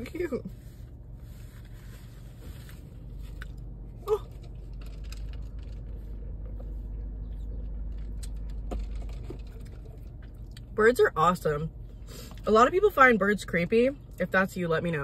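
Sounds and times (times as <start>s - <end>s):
vehicle rumble inside car: 0.0s - 15.0s.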